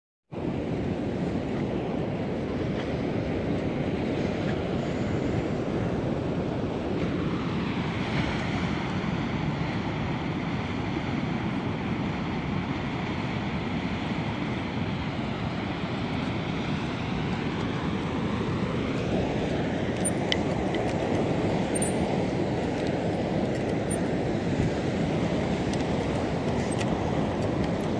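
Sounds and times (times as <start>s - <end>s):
wind rumbling on microphone: 0.3s - 27.9s.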